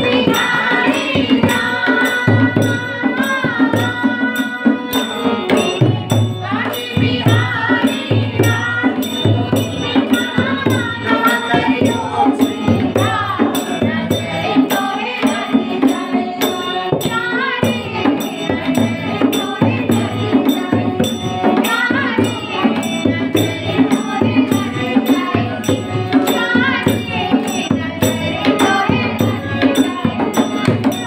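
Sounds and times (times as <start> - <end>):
women singing devotional song: 0.0 - 31.0.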